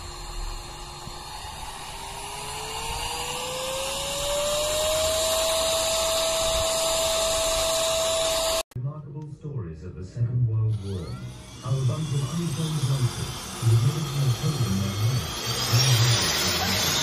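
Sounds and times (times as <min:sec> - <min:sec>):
vacuum motor whining: 0:00.0 - 0:08.7, 0:10.7 - 0:17.0.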